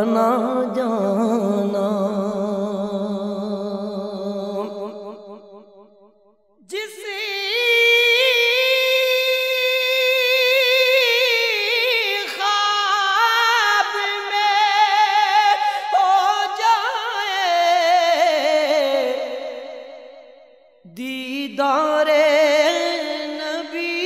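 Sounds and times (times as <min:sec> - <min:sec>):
wordless singing with vibrato: 0:00.0 - 0:24.0.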